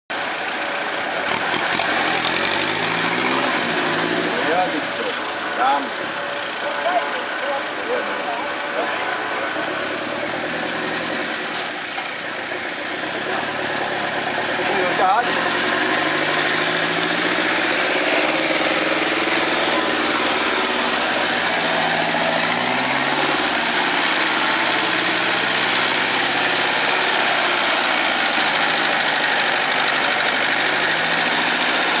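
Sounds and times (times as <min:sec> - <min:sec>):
engine revving under load: 0:01.2 - 0:06.0, 0:08.8 - 0:32.0.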